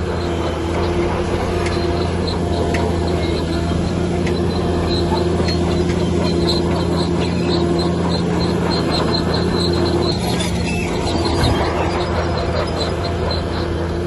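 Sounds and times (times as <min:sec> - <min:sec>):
diesel machine droning: 0:00.0 - 0:14.0
high-pitched squeaks: 0:00.2 - 0:13.8.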